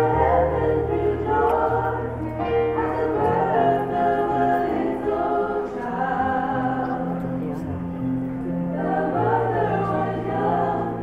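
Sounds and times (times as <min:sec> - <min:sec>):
choir singing in harmony: 0:00.0 - 0:11.0.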